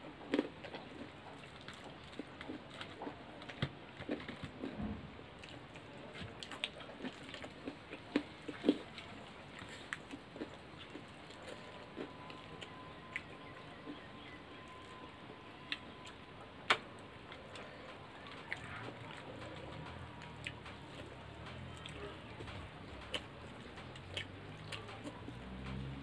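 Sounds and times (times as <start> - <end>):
chewing and mouth smacks: 0.2 - 4.8, 5.4 - 15.0, 15.6 - 25.9.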